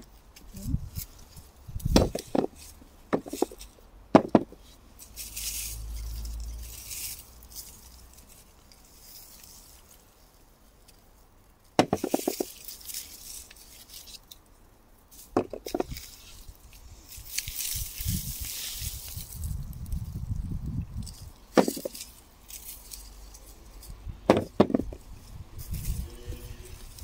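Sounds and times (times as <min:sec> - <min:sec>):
leaves and soil rustling: 0:00.0 - 0:27.0.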